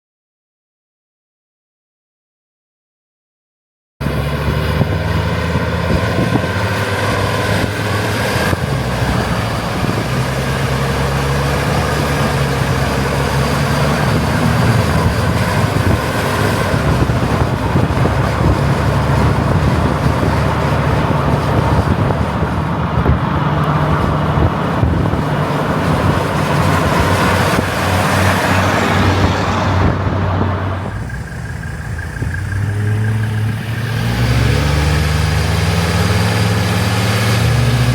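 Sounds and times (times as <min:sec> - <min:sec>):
diesel car engine running: 0:04.0 - 0:37.9
road and wind noise: 0:04.0 - 0:37.9.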